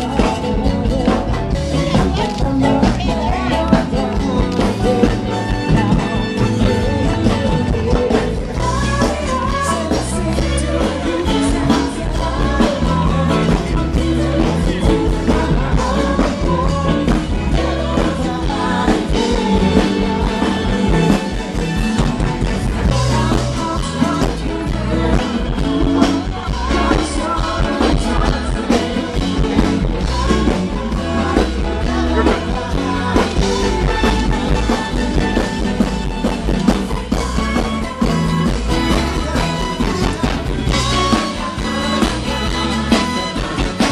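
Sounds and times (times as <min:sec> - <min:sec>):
rock music with singer: 0:00.0 - 0:43.9.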